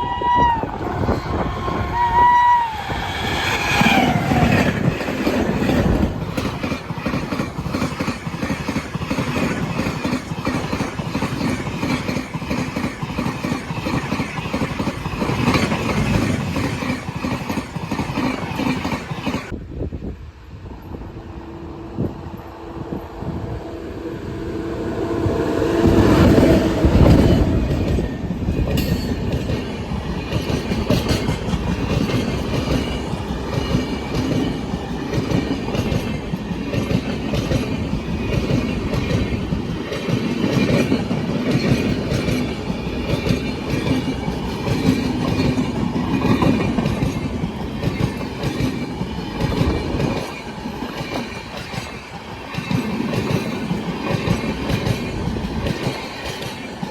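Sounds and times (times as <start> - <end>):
express train passing: 0.0 - 56.9
wheel clatter over rail joints: 3.0 - 19.6, 26.9 - 56.9.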